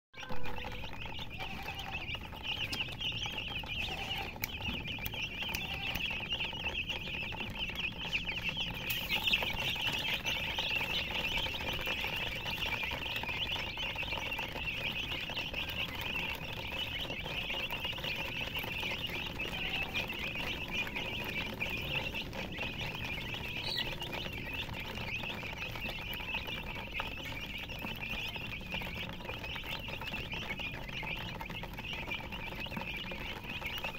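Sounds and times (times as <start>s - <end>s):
baby chicks peeping: 0.2s - 33.9s.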